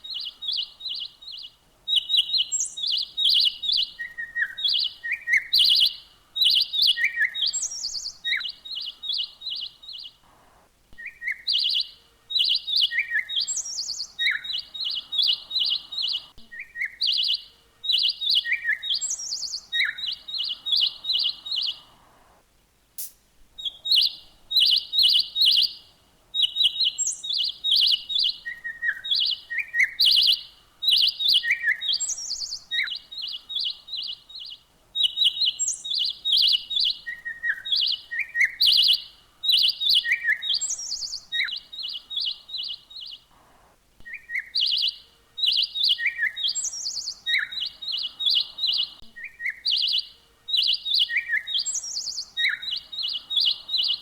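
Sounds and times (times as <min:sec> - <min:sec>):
songbird chirping and trilling: 0:00.0 - 0:22.4, 0:23.5 - 0:54.0.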